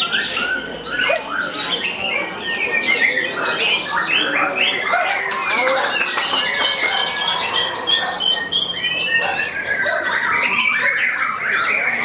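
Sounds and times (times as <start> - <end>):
bird chattering phrases: 0.0 - 12.0
songbird singing whistled notes: 0.0 - 12.0.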